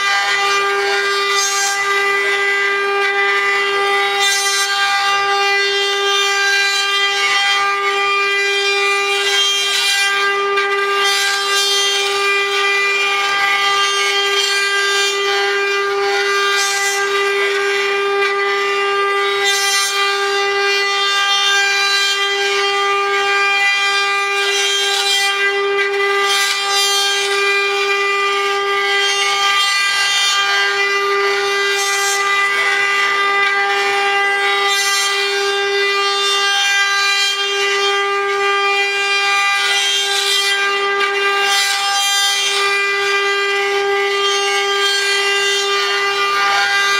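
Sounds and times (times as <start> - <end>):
router bits cutting wood: 0.0 - 46.9
router spindles whining: 0.0 - 46.9.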